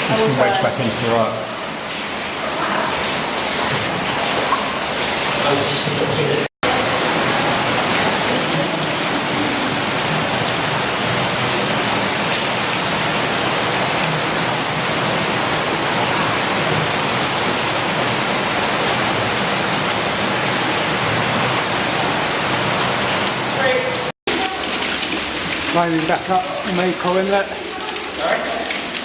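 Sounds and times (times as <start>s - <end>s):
water rushing in cave stream: 0.0s - 29.0s.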